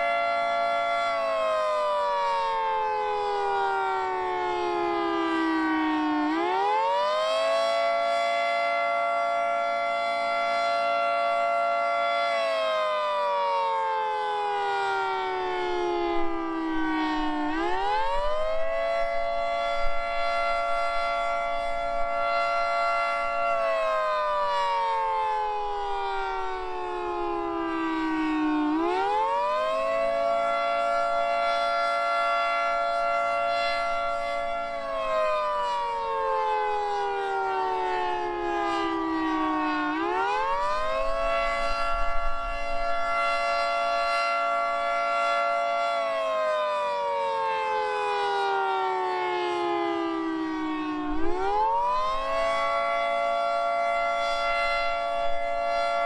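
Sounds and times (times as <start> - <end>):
outdoor warning siren wailing: 0.0 - 56.0.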